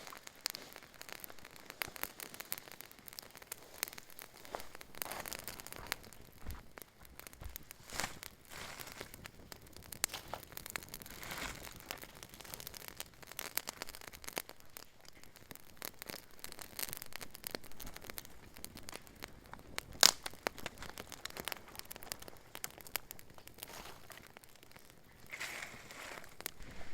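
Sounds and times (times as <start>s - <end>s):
sharp snap of fire: 0.0s - 26.8s
campfire crackling and popping: 0.0s - 26.9s.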